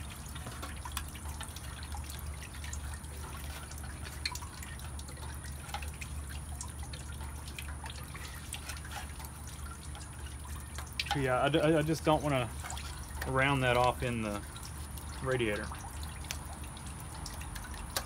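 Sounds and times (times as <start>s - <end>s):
liquid dripping: 0.0s - 18.0s.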